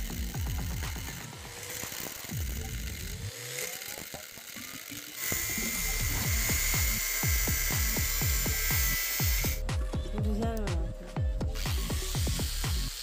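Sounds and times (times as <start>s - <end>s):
background music with bass beat: 0.0s - 3.3s, 5.2s - 13.0s
angle grinder grinding blade: 0.0s - 9.6s, 11.6s - 13.0s.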